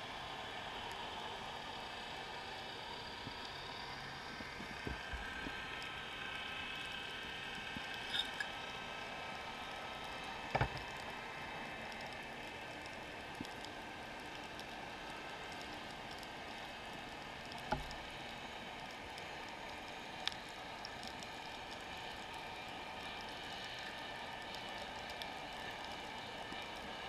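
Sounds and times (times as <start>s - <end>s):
faint steady whines: 0.0s - 27.0s.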